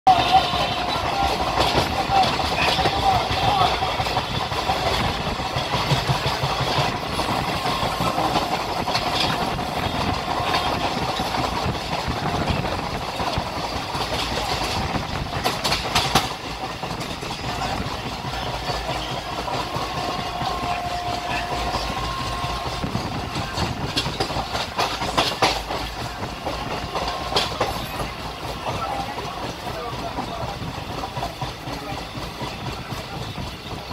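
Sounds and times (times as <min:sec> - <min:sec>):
train wheels rumbling on rails: 0:00.1 - 0:33.9
wheels clacking over rail joints: 0:00.1 - 0:33.9.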